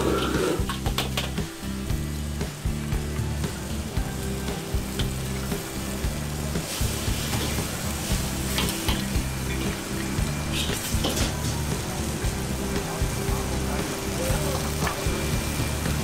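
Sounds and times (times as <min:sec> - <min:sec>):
background music: 0:00.0 - 0:16.0
food sizzling in a wok: 0:00.0 - 0:16.0.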